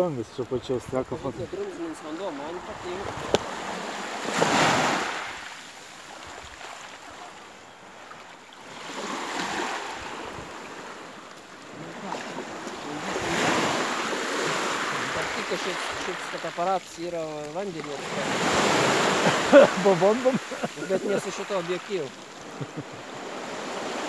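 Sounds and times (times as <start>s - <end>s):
waves washing up a shingle beach: 0.5s - 24.0s.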